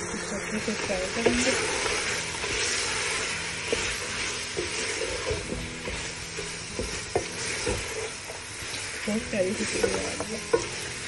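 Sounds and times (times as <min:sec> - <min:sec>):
food sizzling in a frying pan: 0:00.0 - 0:11.0
spatula scraping and knocking pan: 0:00.6 - 0:11.0.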